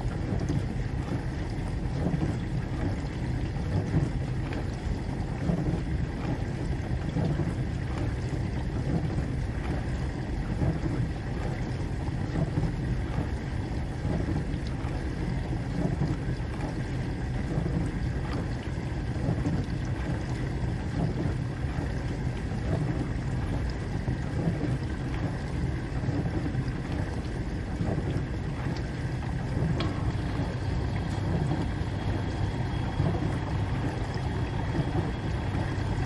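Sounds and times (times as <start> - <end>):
dishwasher running: 0.0 - 36.0.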